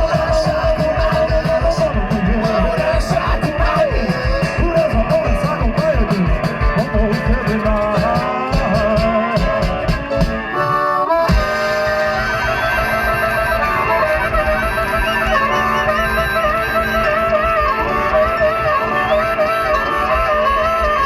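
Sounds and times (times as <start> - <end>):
drums driving fast beat: 0.0 - 21.0
rock and roll band playing: 0.0 - 21.0
wailing lead guitar line: 0.0 - 21.0.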